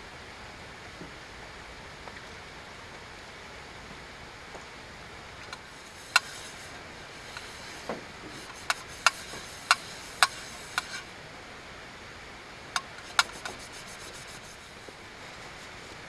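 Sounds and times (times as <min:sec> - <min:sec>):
light rain hiss: 0:00.0 - 0:16.0.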